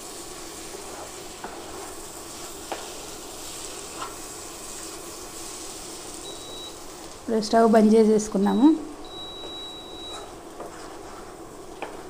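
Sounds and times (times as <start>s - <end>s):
prawns sizzling in a pan: 0.0s - 12.0s.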